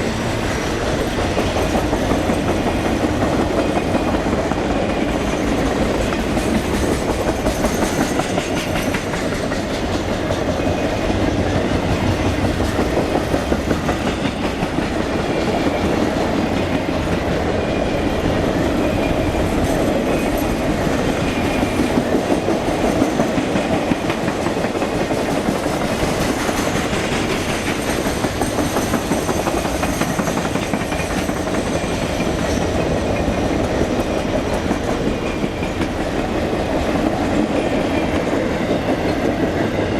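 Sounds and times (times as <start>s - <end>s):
train rolling past: 0.0s - 39.9s
wheels clicking over rail joints: 0.4s - 39.9s.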